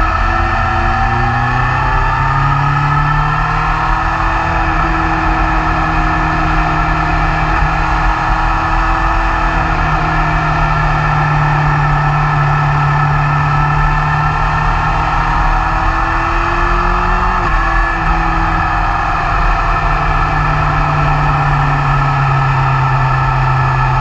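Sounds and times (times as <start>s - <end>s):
motorcycle engine running at speed: 0.0s - 24.0s.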